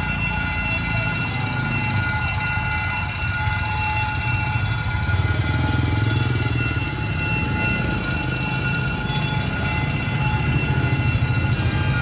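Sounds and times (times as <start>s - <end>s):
level crossing warning alarm: 0.0s - 12.0s.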